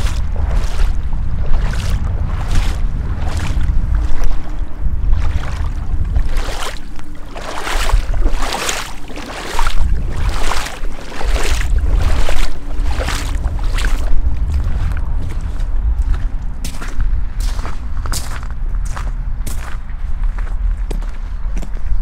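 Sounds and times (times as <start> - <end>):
footsteps splashing through water: 0.0 - 21.8
low rumble: 0.0 - 22.0.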